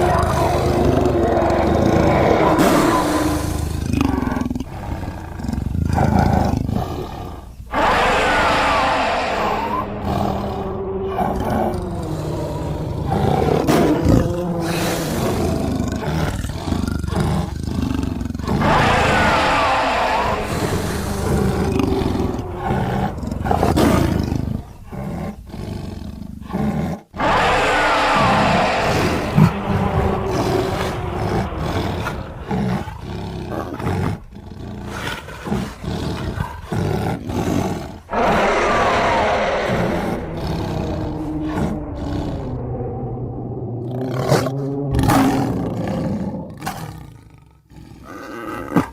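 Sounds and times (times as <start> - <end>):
monster big cat growling and roaring: 0.0 - 48.9.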